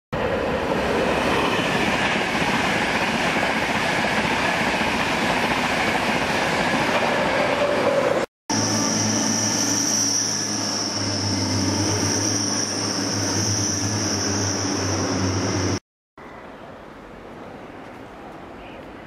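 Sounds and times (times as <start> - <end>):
train passing at speed: 0.2 - 15.8.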